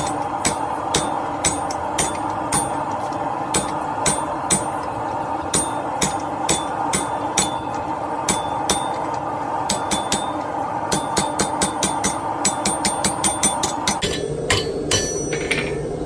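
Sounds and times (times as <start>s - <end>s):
anvil ringing: 0.0s - 4.9s, 5.5s - 15.9s
hammer striking steel on anvil: 0.0s - 15.8s.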